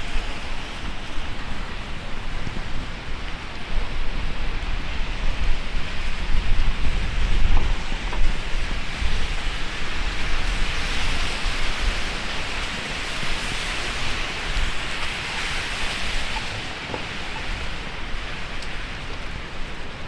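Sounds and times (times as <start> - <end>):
heavy rain splashing: 0.0 - 20.0.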